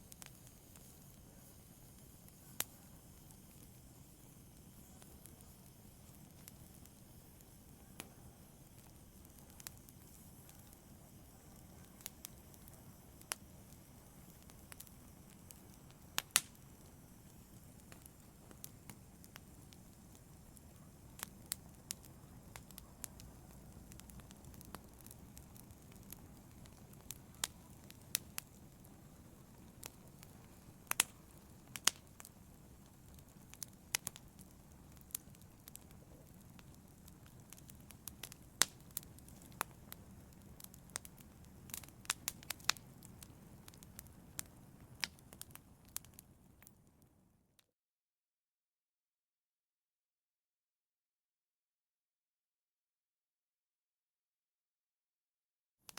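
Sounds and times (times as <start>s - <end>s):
fire crackling and popping: 0.0s - 47.2s.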